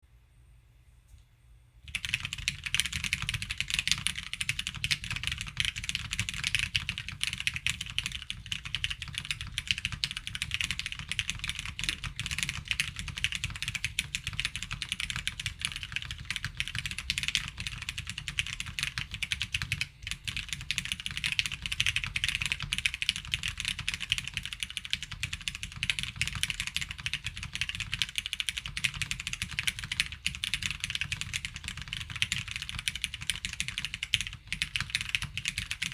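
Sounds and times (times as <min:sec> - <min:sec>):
mechanical keyboard typing: 0:01.9 - 0:35.9.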